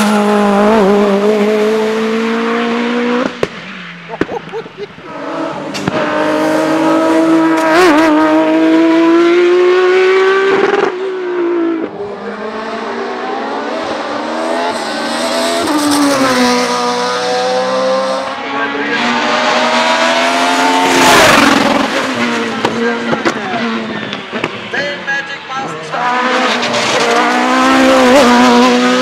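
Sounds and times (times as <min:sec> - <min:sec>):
race car engine accelerating: 0:00.0 - 0:03.9, 0:05.0 - 0:24.6, 0:25.6 - 0:29.0.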